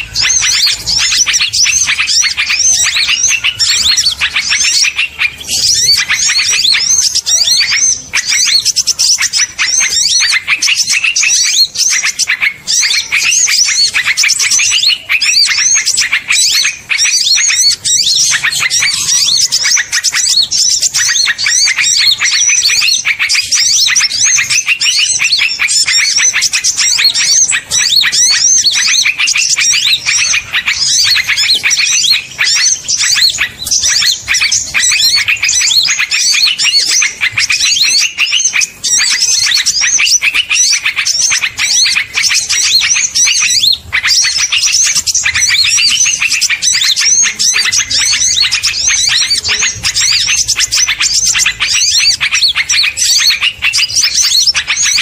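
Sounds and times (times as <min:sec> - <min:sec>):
songbirds chirping and twittering: 0:00.0 - 0:55.0.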